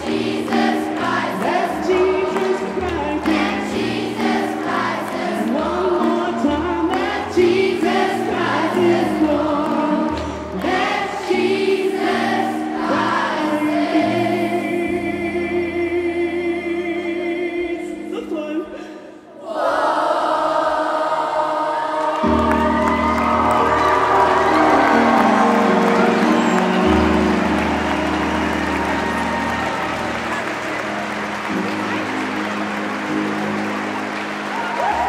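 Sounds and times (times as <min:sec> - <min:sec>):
children's choir singing gospel: 0:00.0 - 0:35.0.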